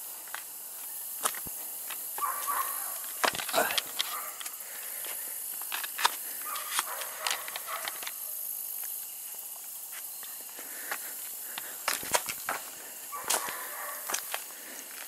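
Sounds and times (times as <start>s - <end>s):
footsteps crunching on gravel: 0.0s - 15.0s
steady high hiss: 0.0s - 15.0s.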